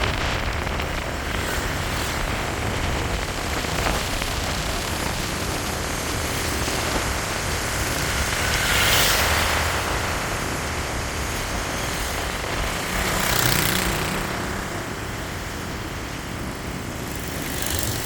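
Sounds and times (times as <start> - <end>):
road traffic of scooters and cars: 0.0 - 18.0.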